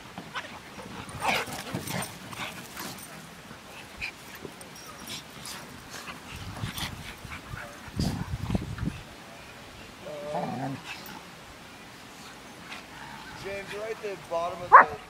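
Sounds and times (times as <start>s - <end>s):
dogs playing and vocalizing: 0.1s - 15.0s.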